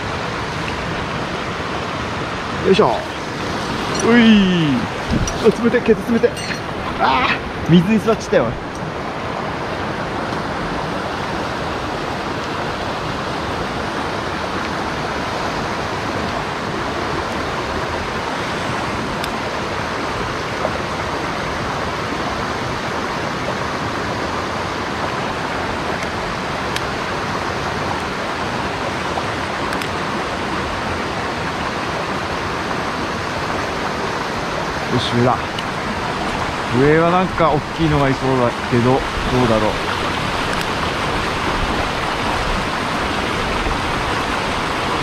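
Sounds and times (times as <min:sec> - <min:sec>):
fast-flowing stream rushing: 0:00.0 - 0:45.0.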